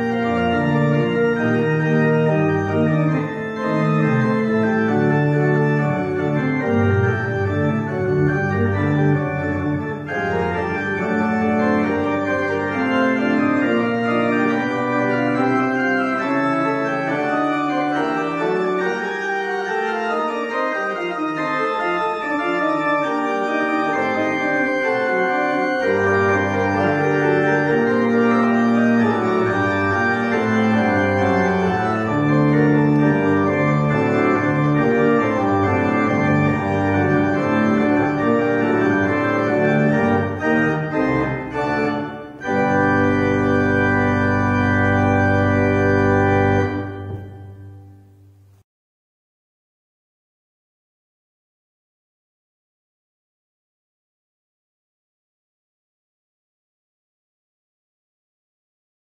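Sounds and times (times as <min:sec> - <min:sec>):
church organ playing chords: 0:00.0 - 0:48.6.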